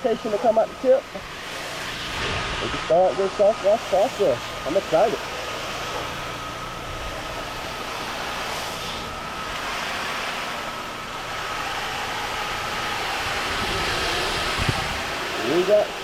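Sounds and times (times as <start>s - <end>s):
pressure washer spray hissing: 0.0s - 16.0s
thin steady whine: 0.0s - 16.0s.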